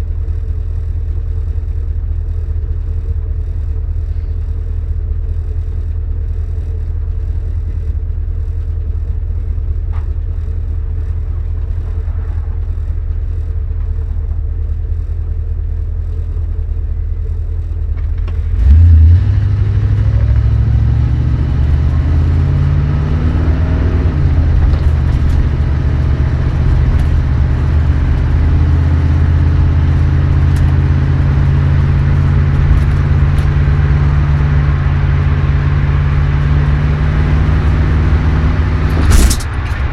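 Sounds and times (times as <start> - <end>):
car engine running: 0.0 - 39.9
transmission shifting: 0.0 - 39.9.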